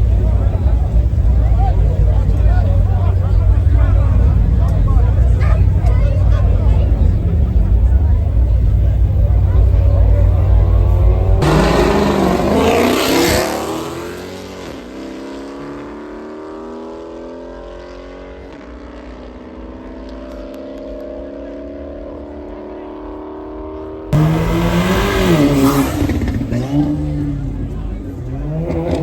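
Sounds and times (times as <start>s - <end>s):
car engine at hard throttle: 0.0s - 29.0s
loud engine close by: 0.0s - 29.0s.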